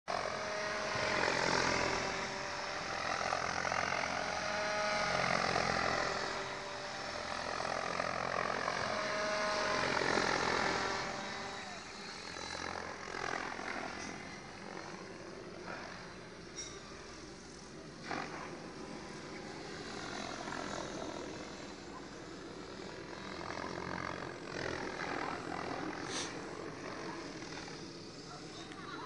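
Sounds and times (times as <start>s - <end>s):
rc helicopter rotor buzz: 0.0s - 29.0s
electric motor whine: 0.1s - 29.0s.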